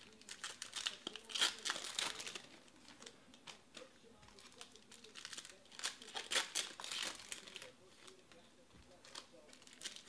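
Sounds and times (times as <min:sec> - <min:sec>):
foil wrapper crinkling and tearing: 0:00.0 - 0:03.6, 0:04.3 - 0:08.2, 0:09.0 - 0:10.0.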